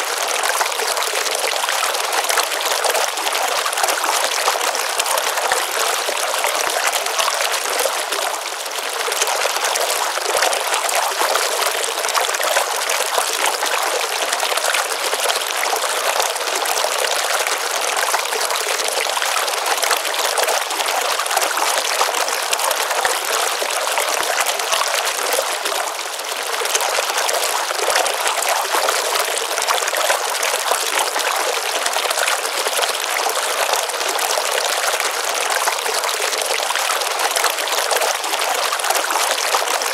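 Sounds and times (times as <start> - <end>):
stream water running and splashing: 0.0 - 39.9.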